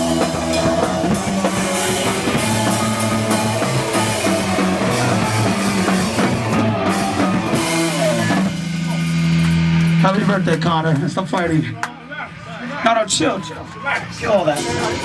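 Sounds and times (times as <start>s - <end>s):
drum kit: 0.0s - 12.4s, 13.6s - 15.0s
electric guitar: 0.0s - 12.5s
live rock band playing: 0.0s - 12.7s, 13.5s - 15.0s.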